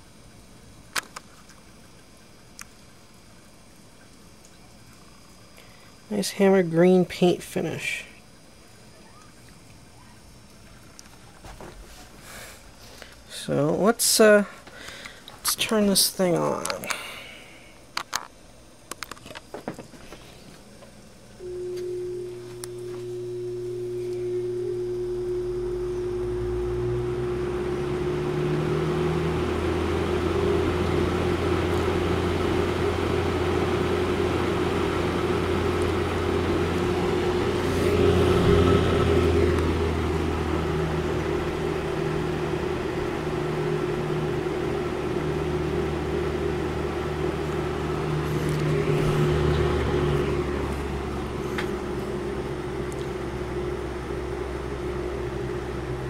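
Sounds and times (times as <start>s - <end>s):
electric fan motor humming: 0.0s - 56.0s.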